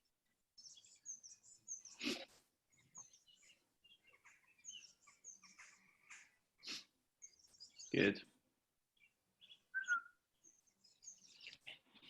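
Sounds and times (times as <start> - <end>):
faint high bird chirps: 0.6 - 8.3, 9.0 - 12.0.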